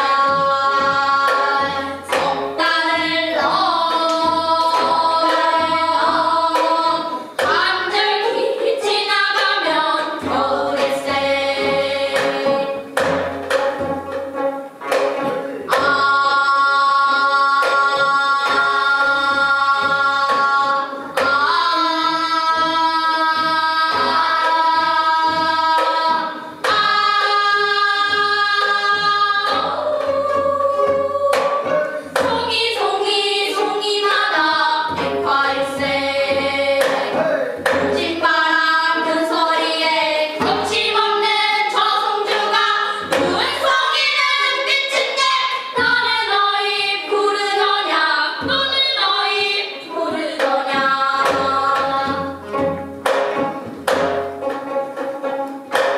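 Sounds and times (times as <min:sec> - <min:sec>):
children singing together: 0:00.0 - 0:55.9.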